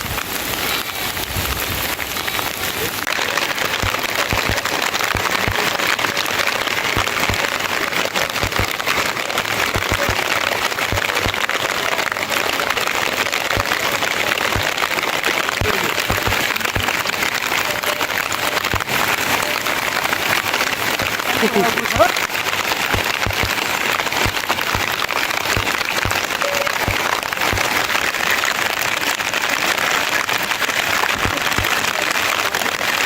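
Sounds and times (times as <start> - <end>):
low knocks of raindrops: 0.0 - 28.7
heavy rain falling: 0.0 - 33.0.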